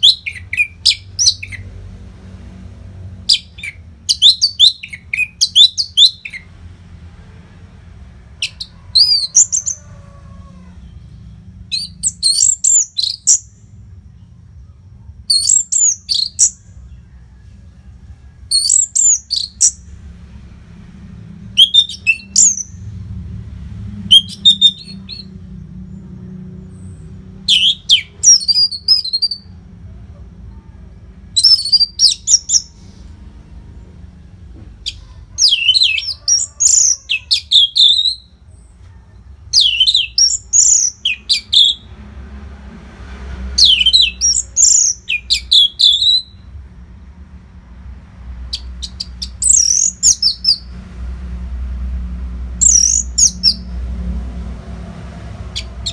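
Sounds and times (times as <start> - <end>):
thrush singing: 0.0 - 13.5, 15.3 - 25.6, 27.0 - 29.6, 30.7 - 42.0, 48.4 - 55.9.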